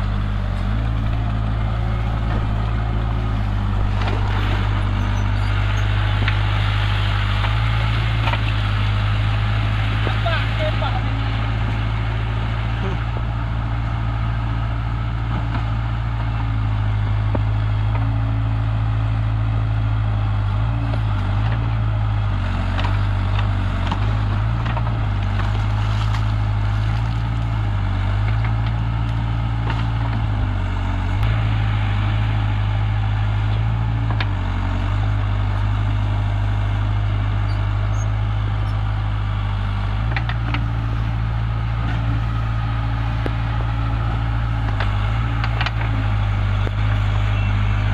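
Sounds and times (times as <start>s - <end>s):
heavy diesel engine under load: 0.0s - 47.9s.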